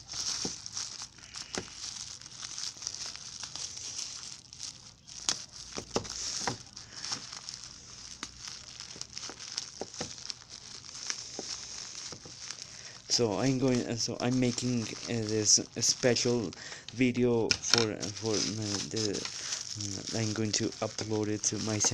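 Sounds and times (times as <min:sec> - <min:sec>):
plastic bag crinkling: 0:00.0 - 0:21.9.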